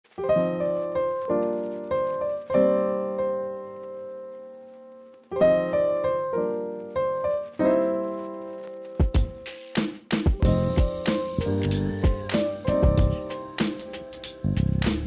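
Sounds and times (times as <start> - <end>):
slow piano chords: 0.1 - 9.6, 10.4 - 15.0.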